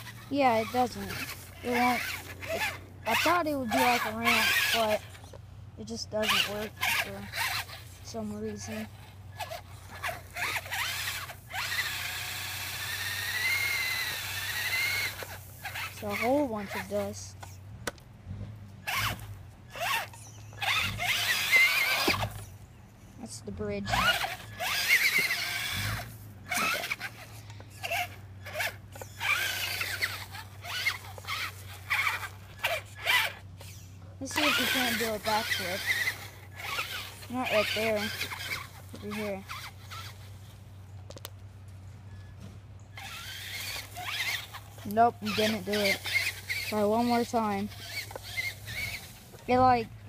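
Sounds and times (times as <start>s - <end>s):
electric motor whine: 0.0s - 41.3s, 42.1s - 50.0s
short motor whirs: 0.0s - 41.3s, 42.0s - 50.0s.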